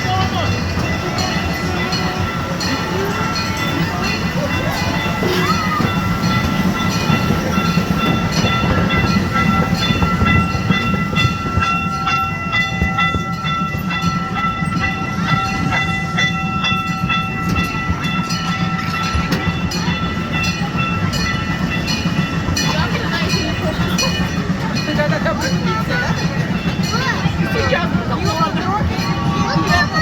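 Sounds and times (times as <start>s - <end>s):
ride train rumbling on track: 0.0s - 30.0s
wheels clicking over rails: 0.0s - 30.0s.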